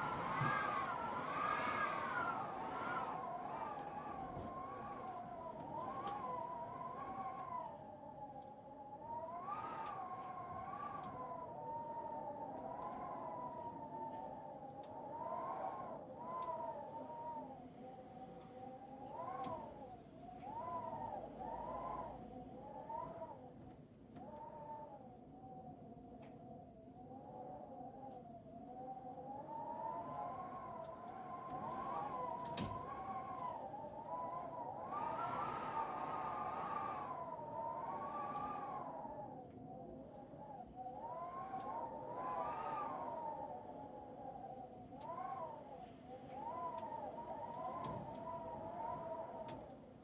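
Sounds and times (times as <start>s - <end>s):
wavering whistling tone: 0.0s - 23.5s, 28.7s - 49.7s.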